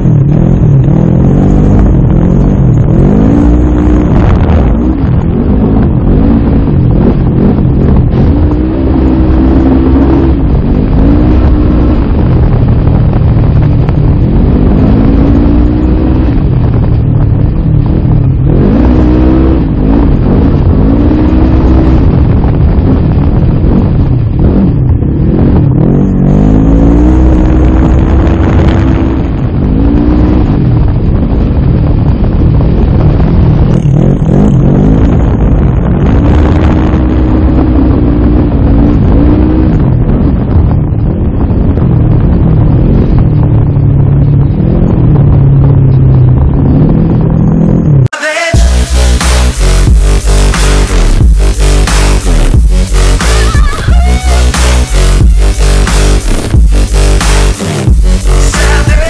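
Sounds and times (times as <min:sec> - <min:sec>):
wind buffeting microphone: 0:00.0 - 0:48.7
off-road vehicle engine revving: 0:00.0 - 0:59.0.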